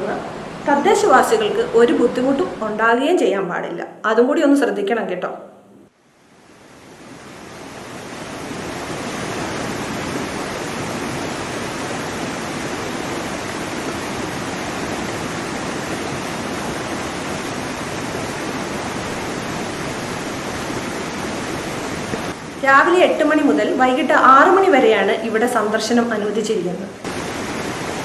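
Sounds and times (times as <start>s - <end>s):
waterfall rushing: 0.0s - 2.8s, 6.3s - 25.0s, 27.0s - 28.0s.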